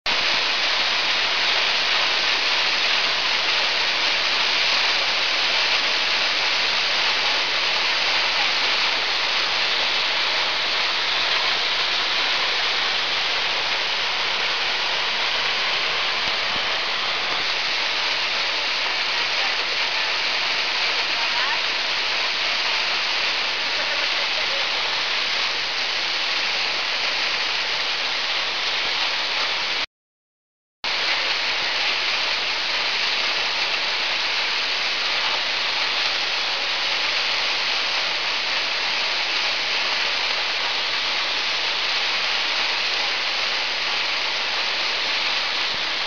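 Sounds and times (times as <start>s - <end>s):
waterfall rushing: 0.1s - 29.9s, 30.9s - 46.0s.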